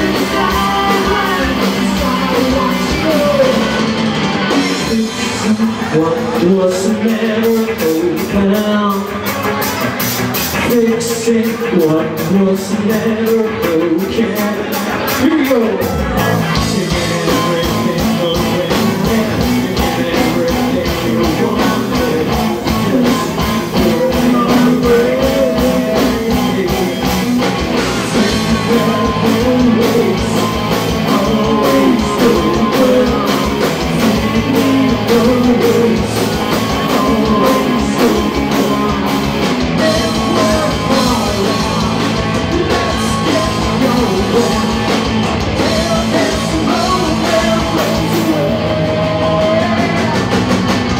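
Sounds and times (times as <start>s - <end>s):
live rock band playing: 0.0s - 50.9s
person singing: 0.0s - 50.9s.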